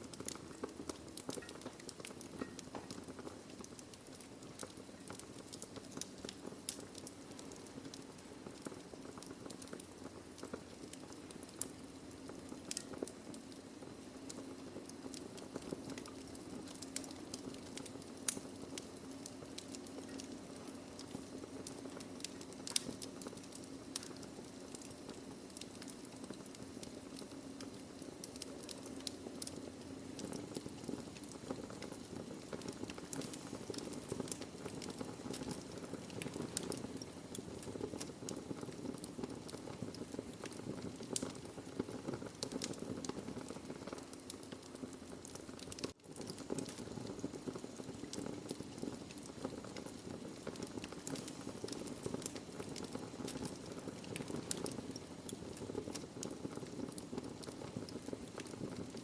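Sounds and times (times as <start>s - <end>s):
burning logs crackling and popping: 0.0s - 59.0s.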